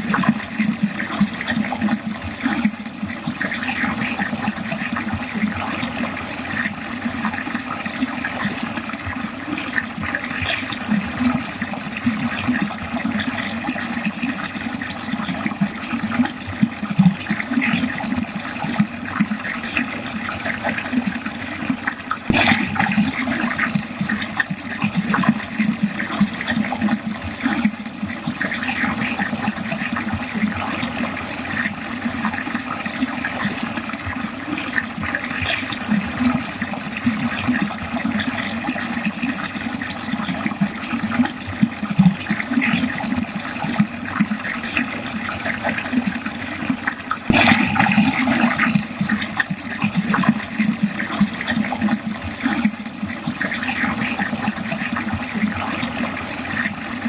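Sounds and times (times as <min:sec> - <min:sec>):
water draining and gurgling: 0:00.0 - 0:57.0.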